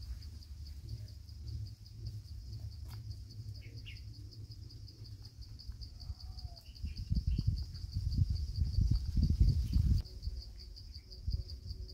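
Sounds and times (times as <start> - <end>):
low rumble: 0.0 - 10.5
insect chirping: 0.0 - 11.9.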